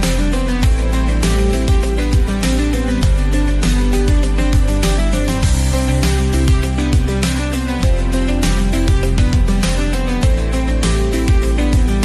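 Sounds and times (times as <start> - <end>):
guitar-led tune: 0.0 - 12.0
steady beat with strong bass: 0.0 - 12.0.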